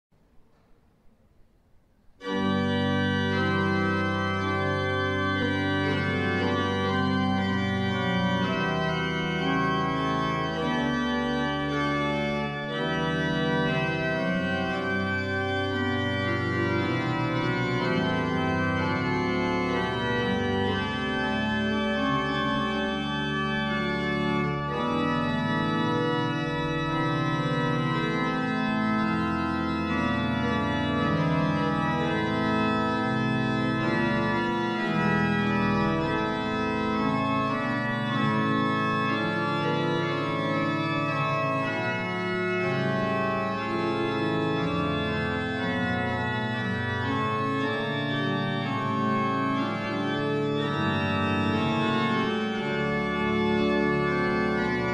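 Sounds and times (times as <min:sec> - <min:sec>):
pipe organ chords: 0:02.0 - 0:54.9.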